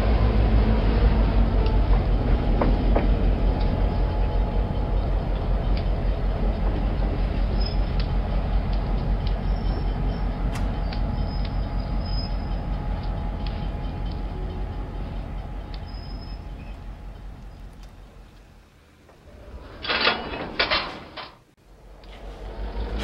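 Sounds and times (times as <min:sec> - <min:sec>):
model train rumbling: 0:00.0 - 0:23.0.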